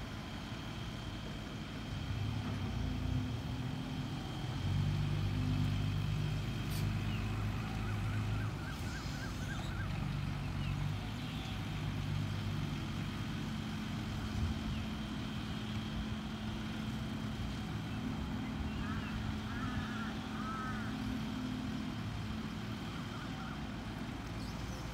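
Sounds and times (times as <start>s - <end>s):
heavy diesel engine running: 0.0s - 24.9s.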